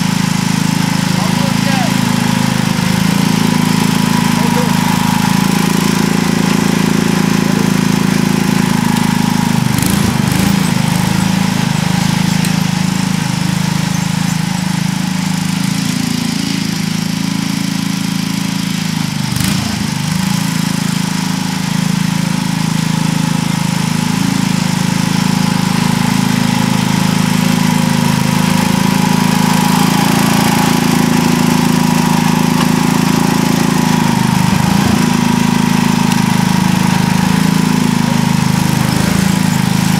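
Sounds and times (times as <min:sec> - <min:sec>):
garden tractor engine under load: 0:00.0 - 0:39.9.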